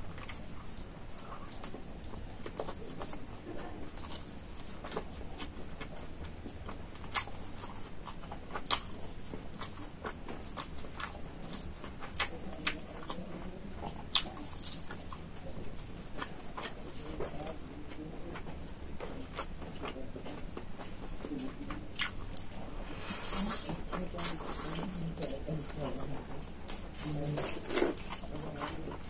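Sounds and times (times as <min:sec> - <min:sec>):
chewing and lip smacking: 0:00.0 - 0:29.0.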